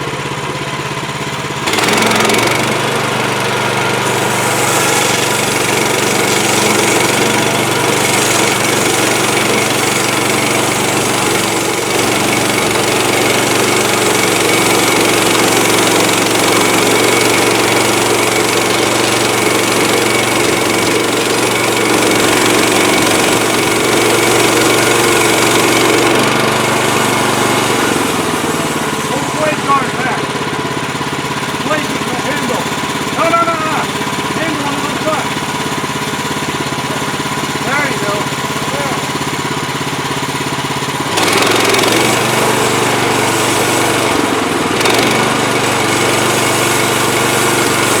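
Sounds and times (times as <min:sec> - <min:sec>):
small gasoline engine running: 0:00.0 - 0:48.0.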